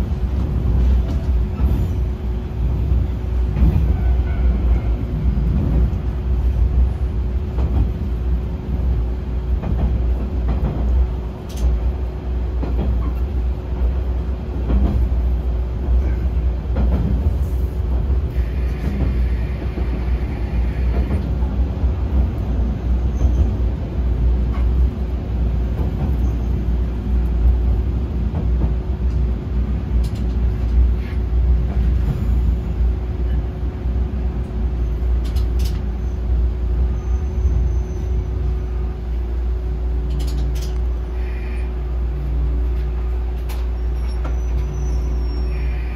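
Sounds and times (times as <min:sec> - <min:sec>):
railcar engine and wheel rumble: 0:00.0 - 0:45.9.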